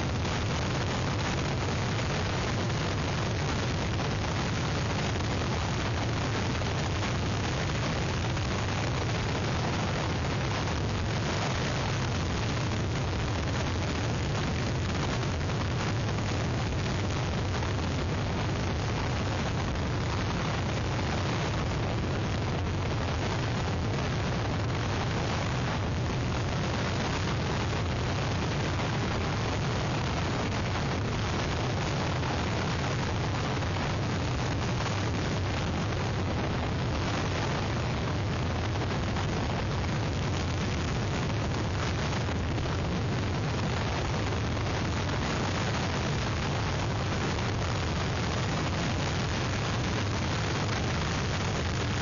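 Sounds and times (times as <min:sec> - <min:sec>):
strong wind on microphone: 0:00.0 - 0:52.0.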